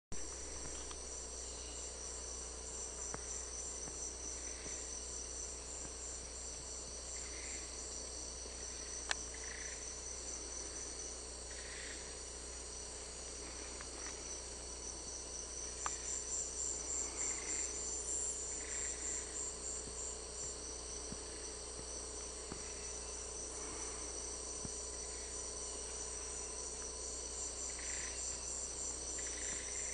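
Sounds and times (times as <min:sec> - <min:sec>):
insects high-pitched trills: 0:00.2 - 0:29.9
pulsing insect trill: 0:00.2 - 0:29.9.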